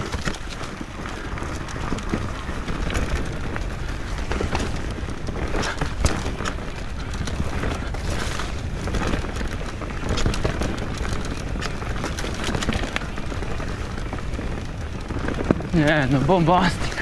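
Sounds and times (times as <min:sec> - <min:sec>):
bike tyres rumbling over dirt: 0:00.0 - 0:17.0
chain and frame rattling: 0:00.0 - 0:17.0
wind rumble on microphone: 0:00.0 - 0:17.0.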